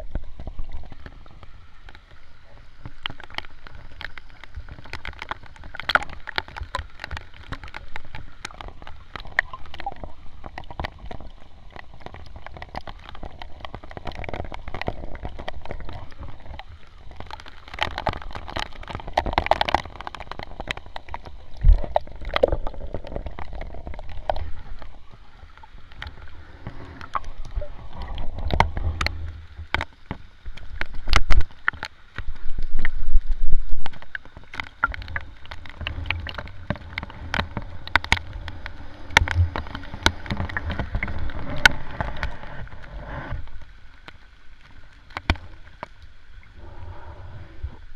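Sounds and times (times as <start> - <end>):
sea water sloshing and gurgling: 0.0 - 47.9.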